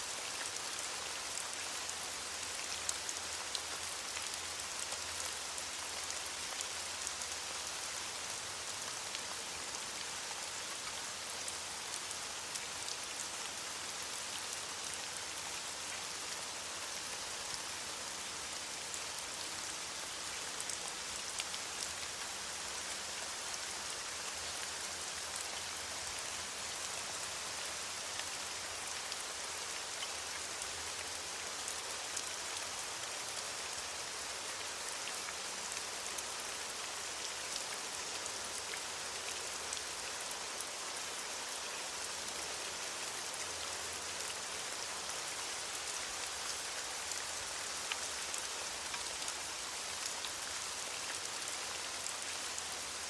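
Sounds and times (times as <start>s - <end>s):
rain falling on leaves: 0.0s - 53.0s.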